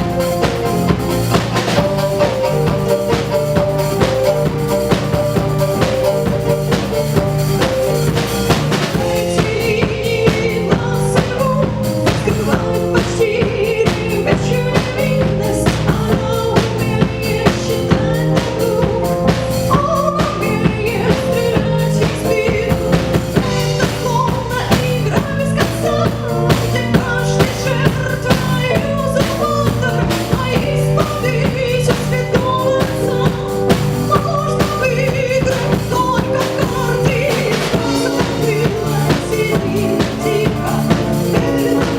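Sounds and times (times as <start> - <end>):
drum kit beat: 0.0 - 41.9
live band playing: 0.0 - 41.9.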